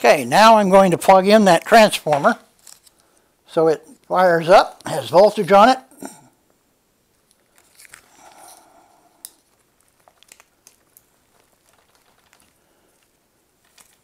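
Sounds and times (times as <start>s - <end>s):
rustling and handling noise: 0.0s - 14.0s.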